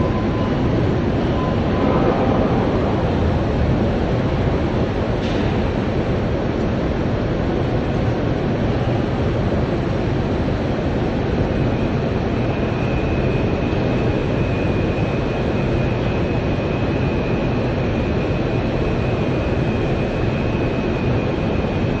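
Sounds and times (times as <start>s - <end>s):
loud industrial roar: 0.0s - 22.0s.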